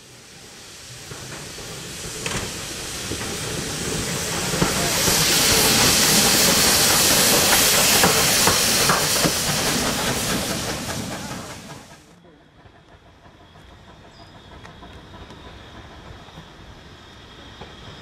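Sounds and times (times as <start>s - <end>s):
rumble of train wheels: 0.0s - 18.0s
steam locomotive hissing: 0.0s - 18.0s.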